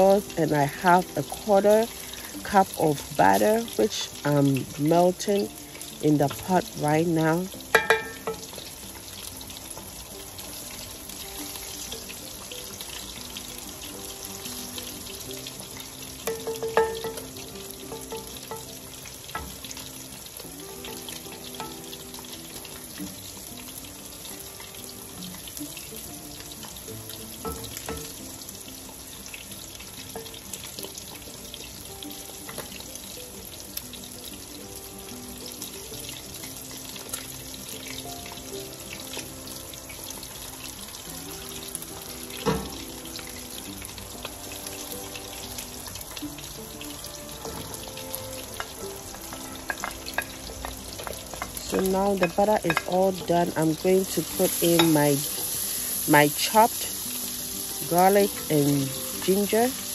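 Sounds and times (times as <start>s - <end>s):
butter sizzling in a pot: 0.0s - 59.9s
soft background music: 0.0s - 59.9s.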